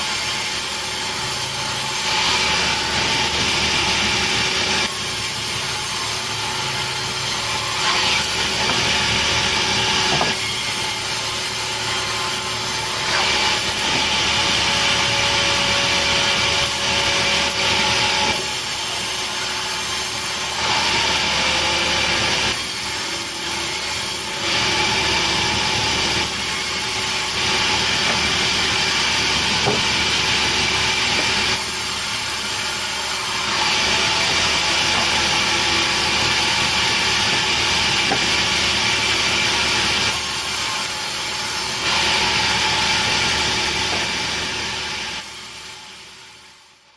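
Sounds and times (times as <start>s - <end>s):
saw cutting logs: 0.0s - 46.6s
sawmill machine running: 0.0s - 46.6s.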